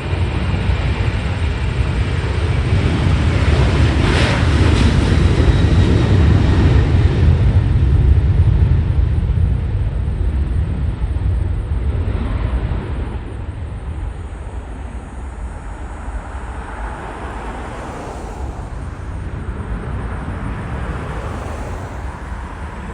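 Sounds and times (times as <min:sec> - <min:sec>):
jet engines at takeoff: 0:00.0 - 0:22.9.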